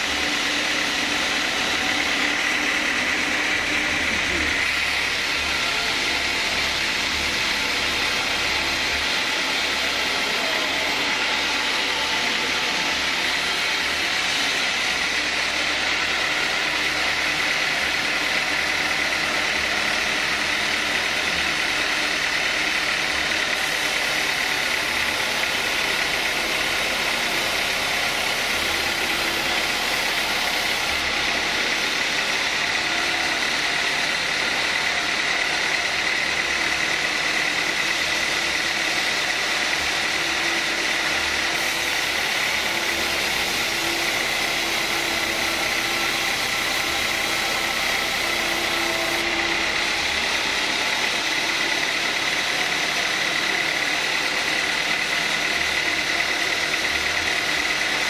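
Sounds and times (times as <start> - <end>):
band saw cutting log: 0.0 - 58.0.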